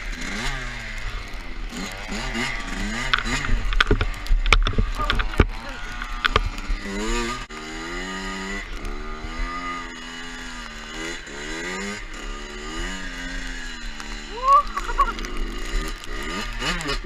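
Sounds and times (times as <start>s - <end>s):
two-stroke dirt bike engine: 0.0s - 17.0s.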